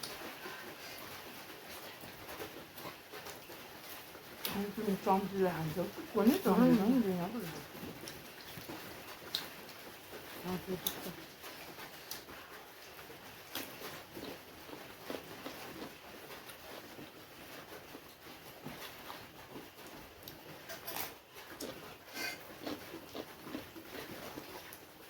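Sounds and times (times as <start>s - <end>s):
close-up chewing: 0.0s - 25.0s.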